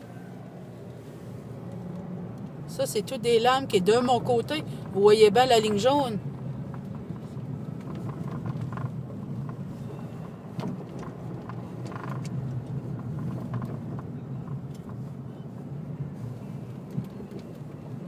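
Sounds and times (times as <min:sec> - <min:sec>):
low rumble of engine and tyres: 0:00.0 - 0:18.0.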